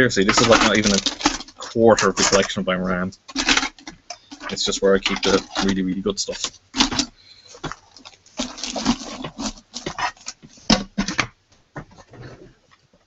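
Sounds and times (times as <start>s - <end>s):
ram sticks clattering in plastic tub: 0.0s - 11.3s.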